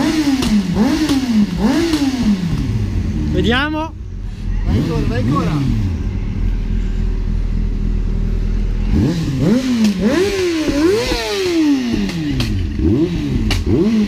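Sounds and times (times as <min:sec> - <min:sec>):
scooter engine revving: 0:00.0 - 0:14.0.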